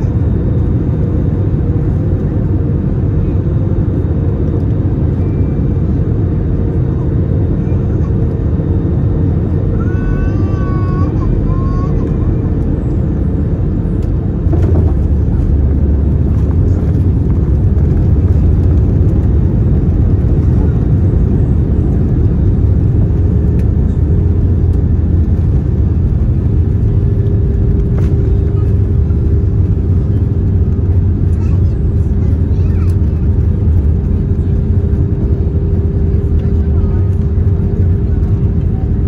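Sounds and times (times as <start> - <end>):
aircraft cabin rumble on runway: 0.0 - 39.0.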